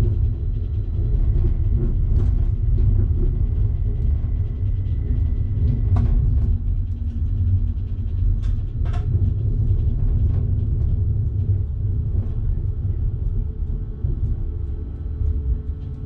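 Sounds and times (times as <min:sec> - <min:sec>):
train rumbling along tracks: 0:00.0 - 0:16.0.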